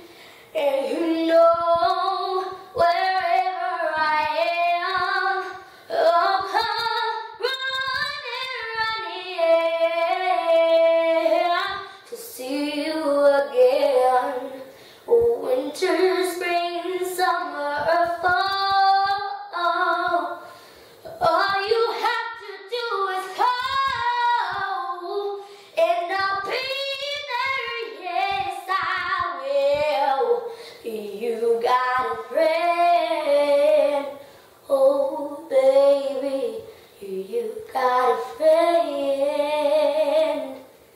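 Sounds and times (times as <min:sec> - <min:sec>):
girl singing unaccompanied: 0:00.0 - 0:40.9.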